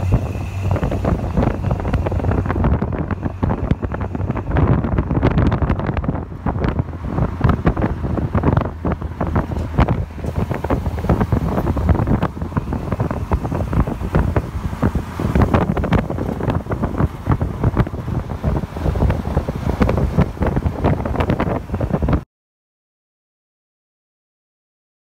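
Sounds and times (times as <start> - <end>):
truck engine running: 0.0 - 22.2
wind buffeting microphone: 0.0 - 22.2.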